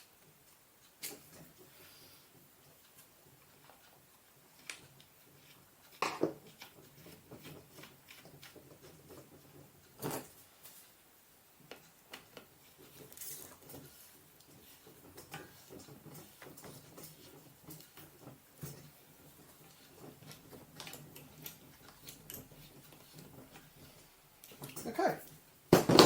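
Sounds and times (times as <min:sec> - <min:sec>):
parts and tools clicking and knocking: 0:00.2 - 0:01.8, 0:02.4 - 0:10.8, 0:11.6 - 0:26.0.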